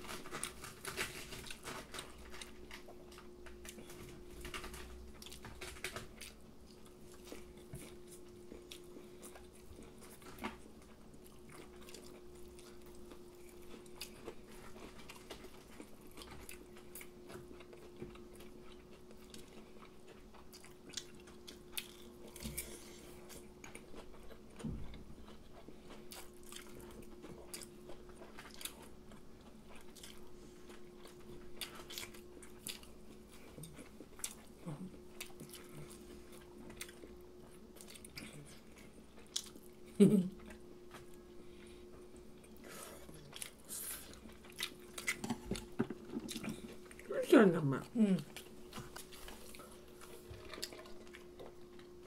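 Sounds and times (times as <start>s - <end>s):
faint steady hum: 0.0s - 52.0s
people chewing crispy food: 0.0s - 52.0s.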